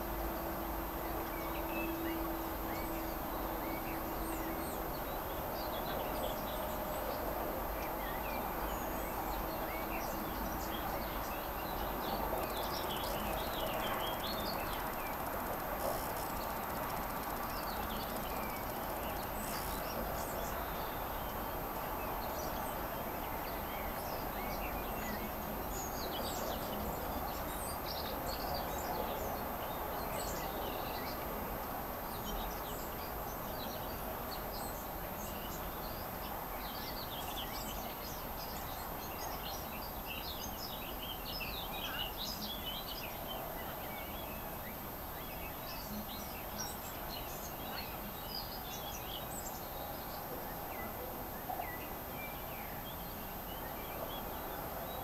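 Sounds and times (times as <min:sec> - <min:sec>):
outdoor background noise: 0:00.0 - 0:55.0
songbirds chirping and twittering: 0:00.0 - 0:55.0.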